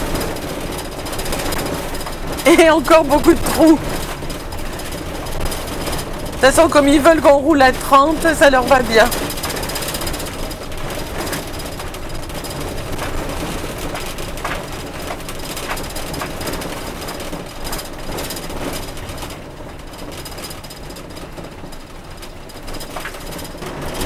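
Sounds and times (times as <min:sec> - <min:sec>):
vehicle knocks and rattles: 0:00.0 - 0:02.4, 0:03.8 - 0:06.4, 0:09.0 - 0:24.0
engine and road noise: 0:00.0 - 0:24.0.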